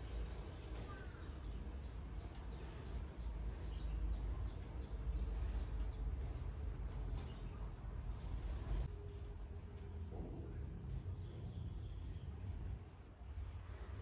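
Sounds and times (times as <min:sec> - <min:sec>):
small birds chirping: 0:00.0 - 0:08.9, 0:10.4 - 0:13.8
low background rumble: 0:00.0 - 0:14.0.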